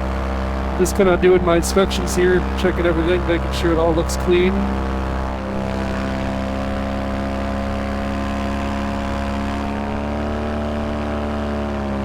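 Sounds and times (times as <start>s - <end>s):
paramotor engine and propeller: 0.0s - 12.0s.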